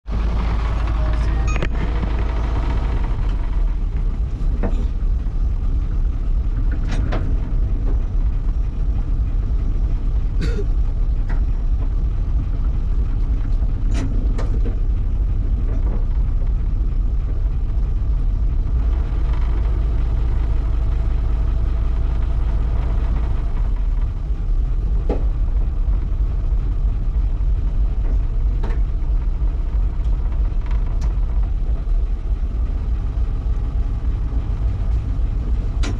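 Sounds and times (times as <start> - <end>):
boat engine low rumble: 0.0 - 35.9.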